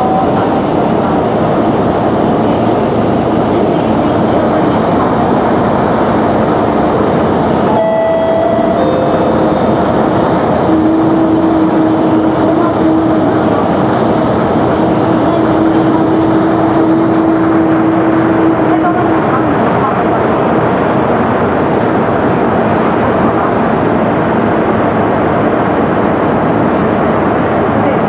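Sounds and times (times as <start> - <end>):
bus diesel engine and road rumble: 0.0 - 28.0
steady whine: 0.0 - 28.0.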